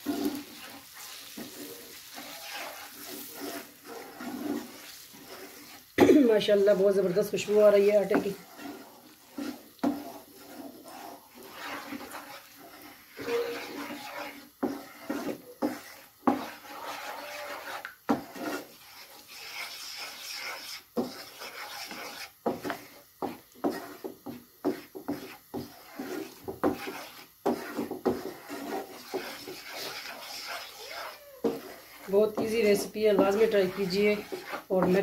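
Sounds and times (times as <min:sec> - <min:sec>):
wooden spoon scraping a pan: 0:00.0 - 0:35.0.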